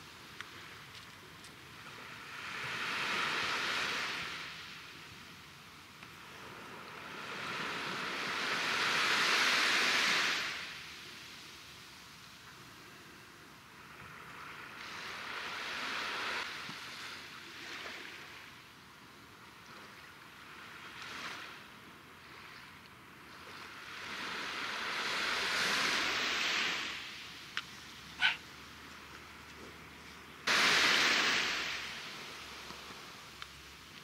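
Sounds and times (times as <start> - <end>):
small waves washing onto sand: 0.0 - 34.0.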